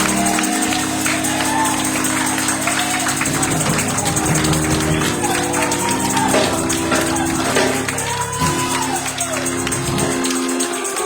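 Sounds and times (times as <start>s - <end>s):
children's choir singing: 0.0s - 11.0s
keyboard chords: 0.0s - 11.0s
tambourine beat: 0.0s - 11.0s.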